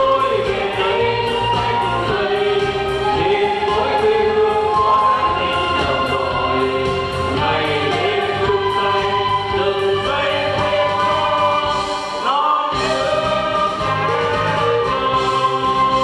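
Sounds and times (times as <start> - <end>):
choir singing: 0.0 - 16.0
musical backing: 0.0 - 16.0.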